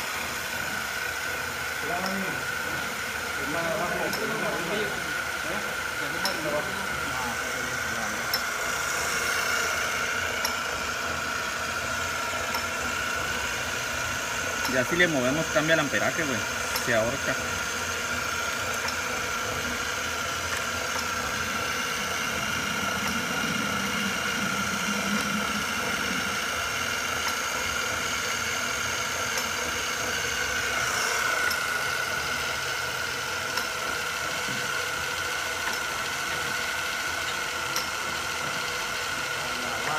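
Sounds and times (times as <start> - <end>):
electric motor whining: 0.0 - 35.2.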